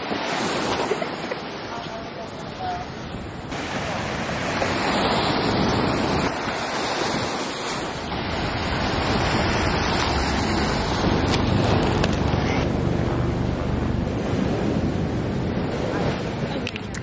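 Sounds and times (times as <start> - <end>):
ocean waves on shore: 0.0 - 17.0
wind buffeting microphone: 2.0 - 17.0.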